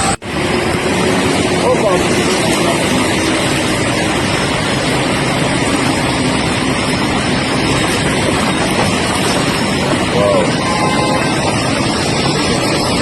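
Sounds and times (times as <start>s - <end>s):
loud traffic hiss: 0.0s - 13.0s
vehicle engines running: 0.0s - 13.0s.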